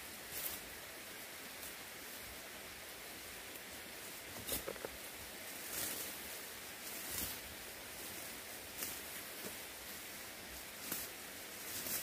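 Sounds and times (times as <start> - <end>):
background hiss: 0.0 - 12.0
undergrowth rustling and crackling: 0.0 - 12.0.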